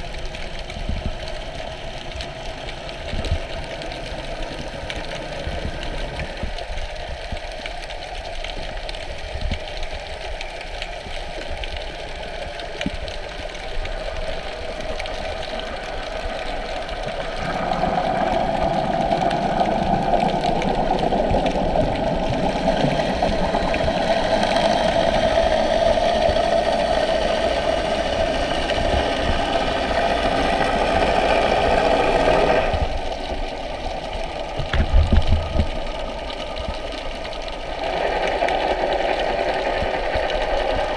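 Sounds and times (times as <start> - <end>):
underwater motor whirr: 0.0 - 40.9.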